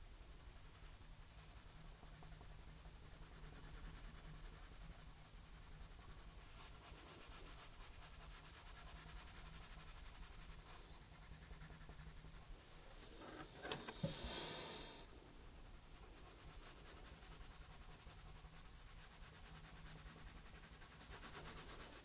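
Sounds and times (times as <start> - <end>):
pencil scratching on paper: 0.4 - 22.0.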